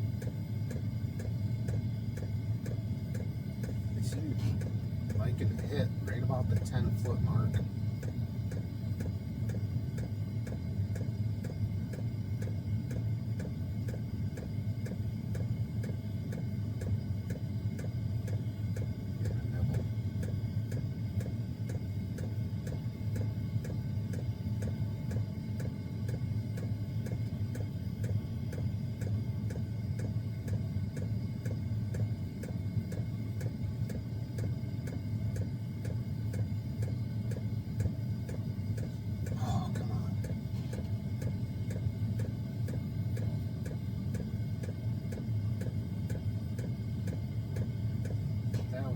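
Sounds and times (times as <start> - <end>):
heater combustion and fan hum: 0.0 - 48.9
fuel pump ticking: 0.1 - 48.9.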